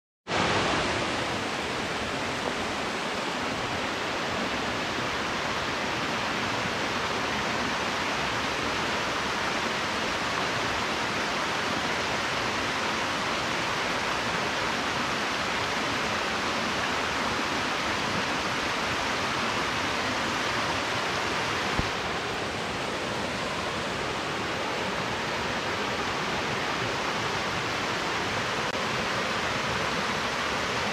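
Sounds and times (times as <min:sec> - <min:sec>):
waterfall rushing: 0:00.3 - 0:30.9.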